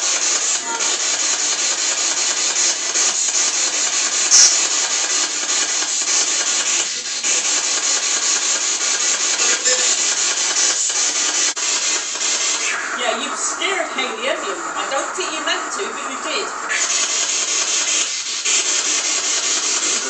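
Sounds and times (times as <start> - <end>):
radio static hiss with flutter: 0.0 - 20.0.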